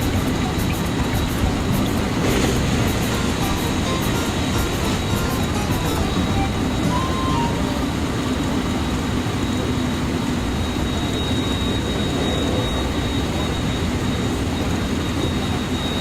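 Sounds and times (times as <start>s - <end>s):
thin steady high tone: 0.0s - 16.0s
train wheels rumbling on rails: 0.0s - 16.0s.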